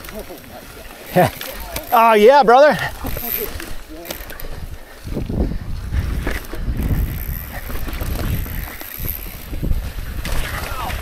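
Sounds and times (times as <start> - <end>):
bike knocks and rattles: 0.0 - 11.0
bike tyres rumbling on dirt: 0.0 - 11.0.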